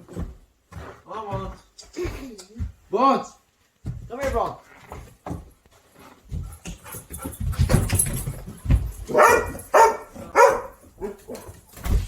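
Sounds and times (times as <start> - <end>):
low thumps and scuffling: 0.0 - 12.0.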